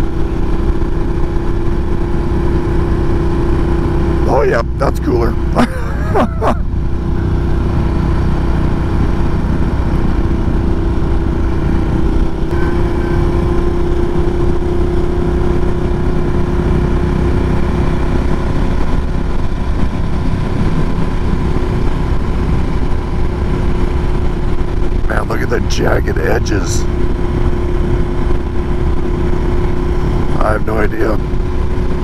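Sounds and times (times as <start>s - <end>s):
motorcycle engine running steadily: 0.0s - 32.0s.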